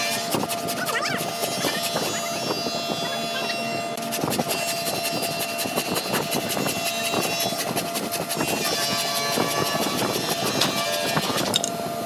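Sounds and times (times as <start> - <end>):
machine running with rapid ticking: 0.0 - 11.8.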